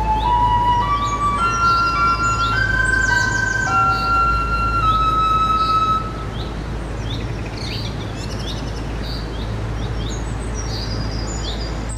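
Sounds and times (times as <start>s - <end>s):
low rumble background noise: 0.0s - 11.9s
small birds chirping: 0.0s - 11.9s.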